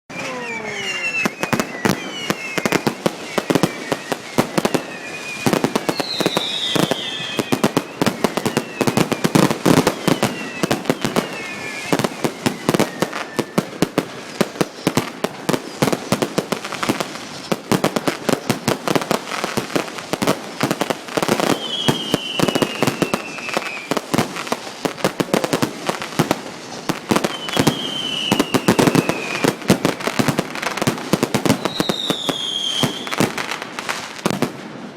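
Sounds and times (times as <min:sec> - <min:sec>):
firework whistles falling in pitch: 0:00.1 - 0:34.8
fireworks cracks and bangs: 0:00.1 - 0:34.9.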